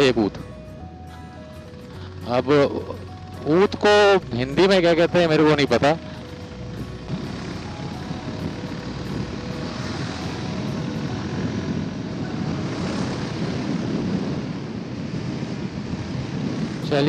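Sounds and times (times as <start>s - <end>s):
motorcycle engine droning: 0.0s - 17.0s
wind rushing over microphone: 0.0s - 17.0s.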